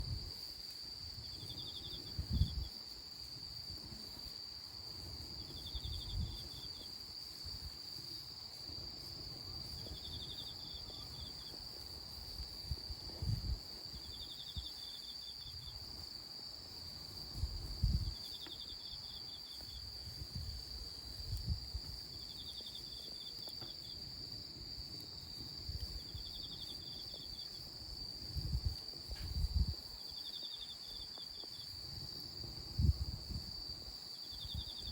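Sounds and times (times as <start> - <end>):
insects droning: 0.0 - 34.9.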